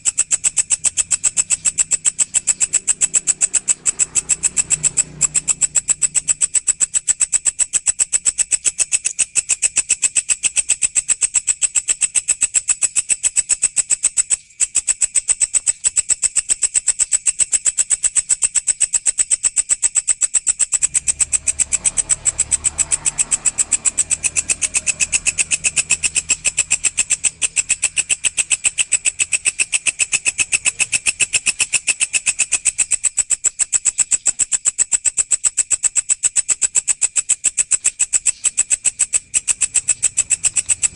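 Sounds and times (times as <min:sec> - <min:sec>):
insect high-pitched pulsing trill: 0:00.0 - 0:40.9.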